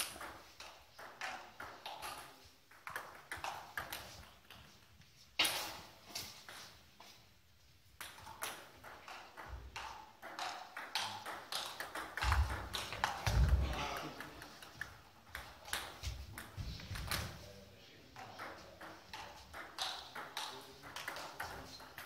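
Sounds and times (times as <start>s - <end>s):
table tennis balls clicking: 0.0s - 6.8s, 8.0s - 17.3s, 18.2s - 22.0s.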